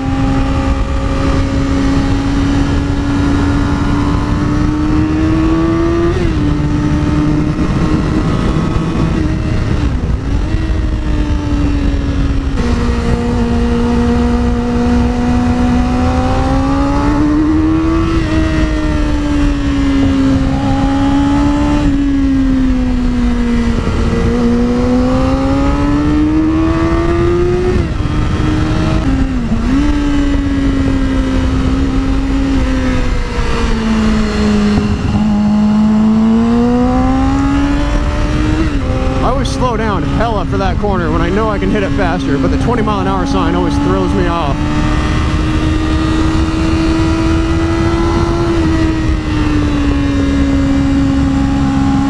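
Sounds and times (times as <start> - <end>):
motorcycle engine running: 0.0 - 52.0
wind rumble: 0.0 - 52.0.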